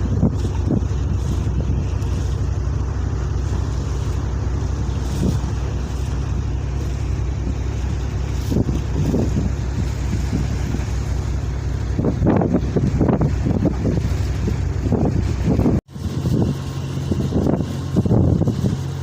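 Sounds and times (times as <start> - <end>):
low boat engine rumble: 0.0 - 19.0
wind buffeting microphone: 0.0 - 19.0.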